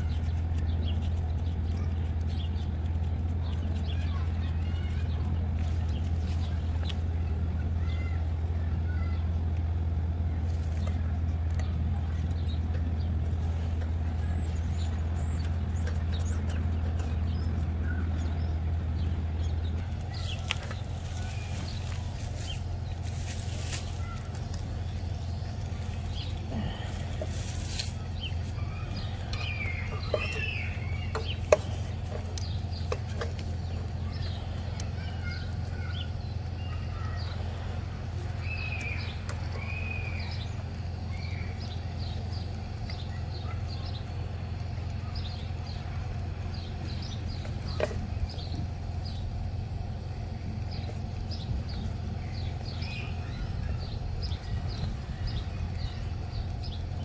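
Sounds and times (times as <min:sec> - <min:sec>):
birds chirping and calling: 0:00.0 - 0:57.0
steady low hum: 0:00.0 - 0:57.0.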